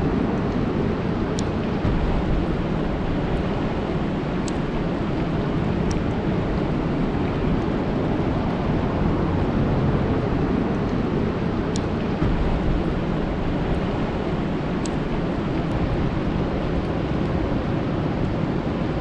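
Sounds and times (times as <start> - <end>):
rain falling on a lake: 1.6 - 10.3, 11.8 - 19.0.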